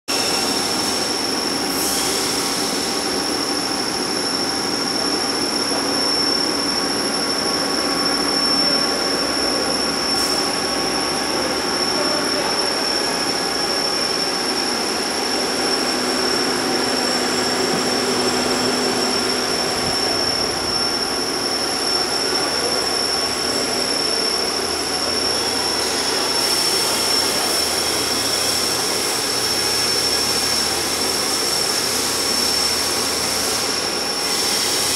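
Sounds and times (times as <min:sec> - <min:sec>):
drilling machine running: 0:00.1 - 0:34.9
high-pitched whine: 0:00.1 - 0:34.9.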